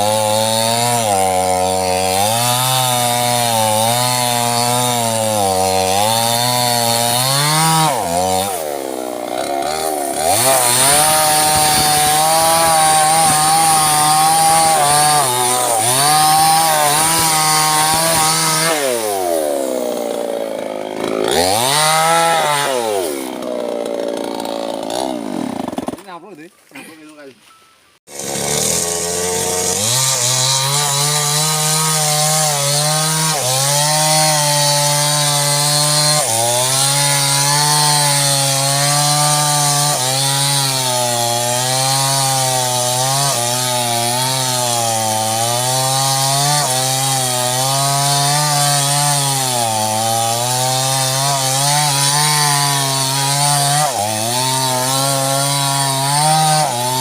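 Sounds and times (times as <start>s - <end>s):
chainsaw cutting wood: 0.0s - 26.9s, 28.0s - 57.0s.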